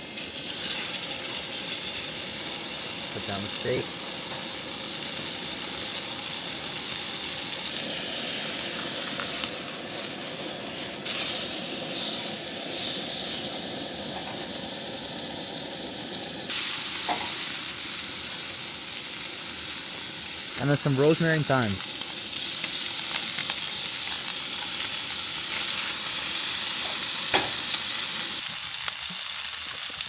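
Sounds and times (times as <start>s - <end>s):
steak sizzling in a pan: 0.0s - 30.0s.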